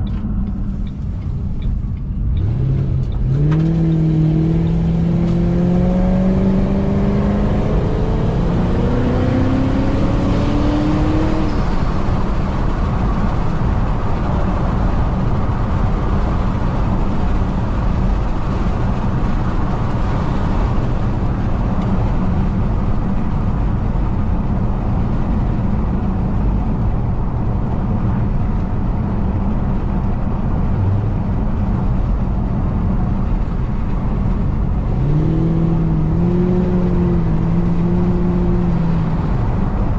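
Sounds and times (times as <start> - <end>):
car engine accelerating: 0.0 - 39.9
road noise: 0.0 - 39.9.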